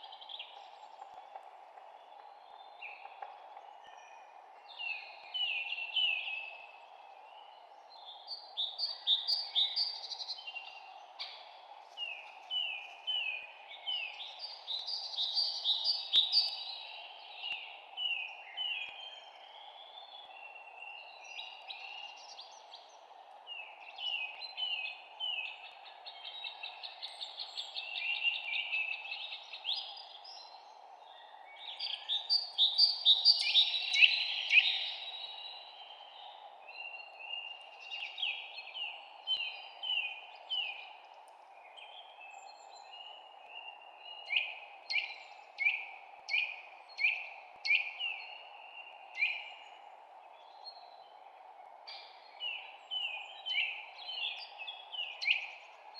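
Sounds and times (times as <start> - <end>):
low background noise: 0.0 - 55.9
songbirds chirping and singing: 2.1 - 55.9.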